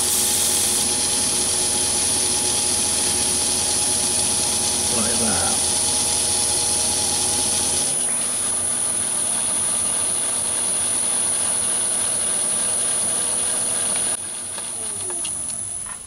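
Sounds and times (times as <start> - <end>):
lathe cutting: 0.0 - 14.7
lathe spindle running down: 0.0 - 15.9
lathe motor whining: 0.0 - 16.0.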